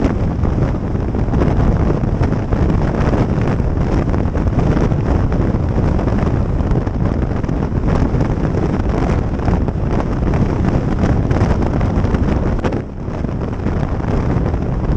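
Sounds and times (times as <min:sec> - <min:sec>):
road noise: 0:00.0 - 0:14.9
wind rushing over microphone: 0:00.0 - 0:14.9.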